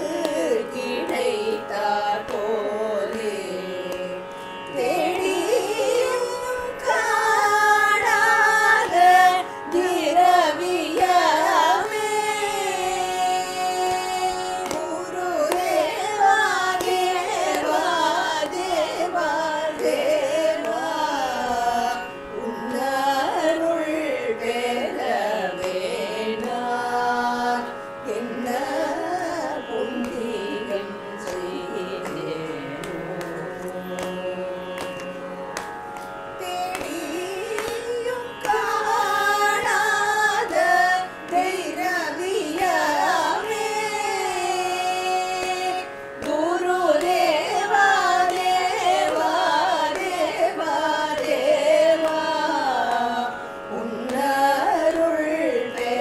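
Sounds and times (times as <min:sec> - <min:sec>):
women singing in unison: 0:00.0 - 0:35.2, 0:36.4 - 0:56.0.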